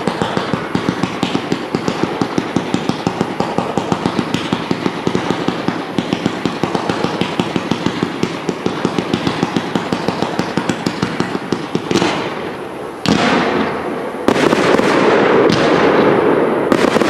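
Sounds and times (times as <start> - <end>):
fireworks crackling hiss: 0.0 - 17.0.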